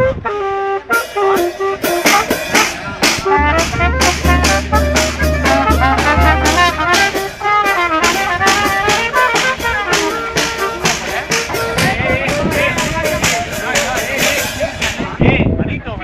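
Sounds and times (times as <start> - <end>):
trumpets playing melody: 0.0 - 14.9
steady drum beat: 0.9 - 15.2.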